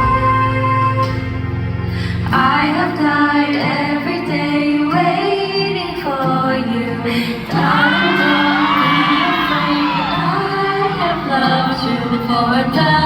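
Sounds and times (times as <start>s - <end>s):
backing track music: 0.0s - 13.0s
women singing: 2.2s - 13.0s.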